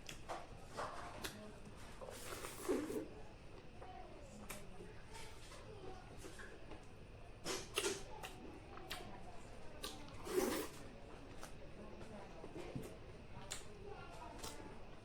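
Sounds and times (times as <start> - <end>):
quiet chewing: 0.0 - 15.0.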